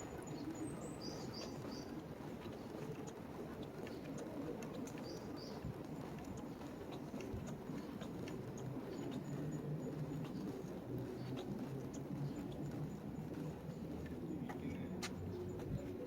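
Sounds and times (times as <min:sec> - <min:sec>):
footsteps on pavement: 0:00.0 - 0:16.0
low city hum: 0:00.0 - 0:16.0.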